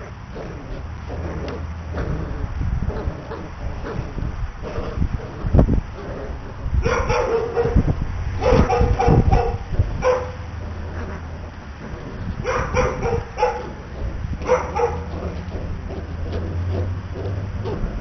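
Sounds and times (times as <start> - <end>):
puppies yipping and barking: 0.0 - 18.0.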